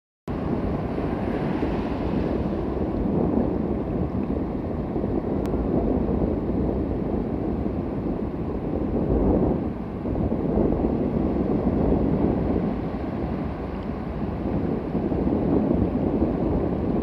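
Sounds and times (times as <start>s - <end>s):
surf washing over sandy shore: 0.3s - 17.0s
wind rumbling on microphone: 0.3s - 17.0s.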